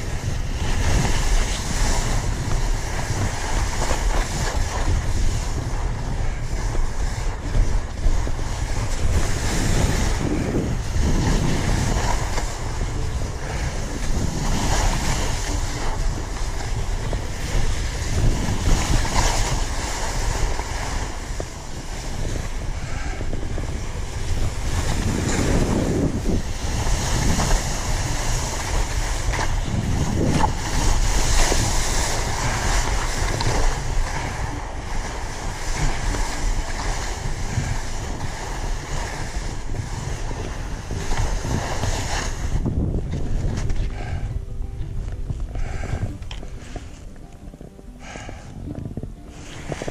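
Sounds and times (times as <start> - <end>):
skis hissing on snow: 0.0 - 42.7, 45.6 - 46.9, 48.0 - 48.5
wind buffeting microphone: 0.0 - 49.9.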